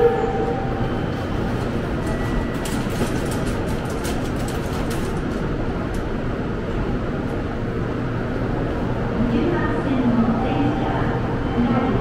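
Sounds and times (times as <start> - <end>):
train equipment hum and rush: 0.0 - 12.0.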